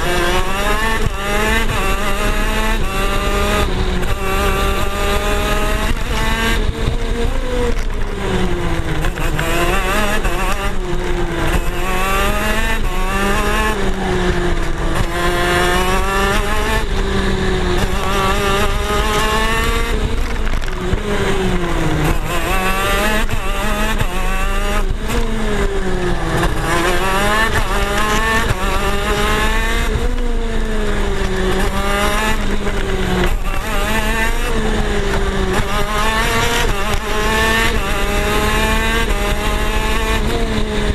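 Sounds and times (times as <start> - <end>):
two-stroke kart engine racing: 0.0 - 40.9.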